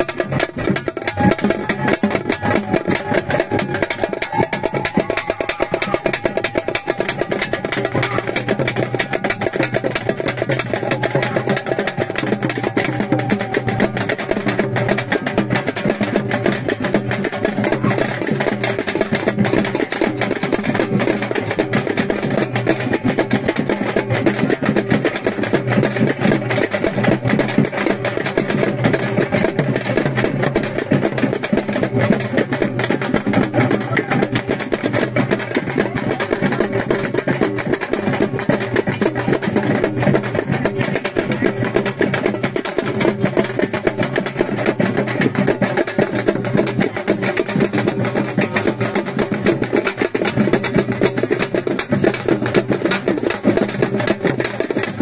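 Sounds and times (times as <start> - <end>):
fast continuous drumming: 0.0 - 55.0.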